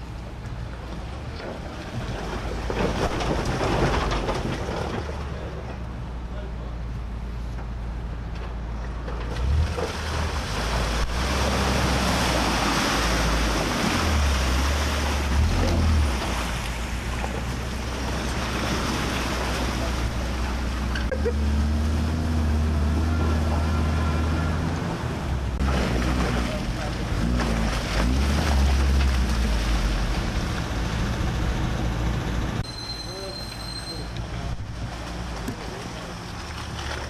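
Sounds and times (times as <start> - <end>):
water churning and splashing: 0.0 - 5.6, 9.2 - 32.6, 33.5 - 37.0
engine running under load: 0.0 - 37.0.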